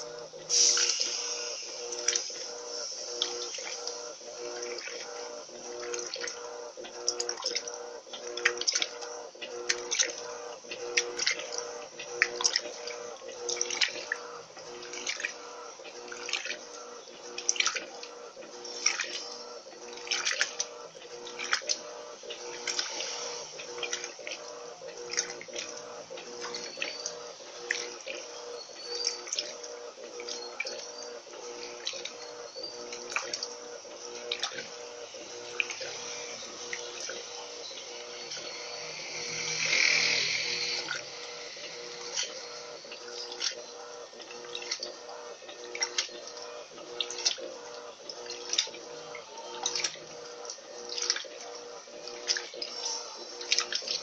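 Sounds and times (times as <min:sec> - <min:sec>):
washing machine motor humming: 0:00.0 - 0:54.0
water sloshing and splashing: 0:00.1 - 0:54.0.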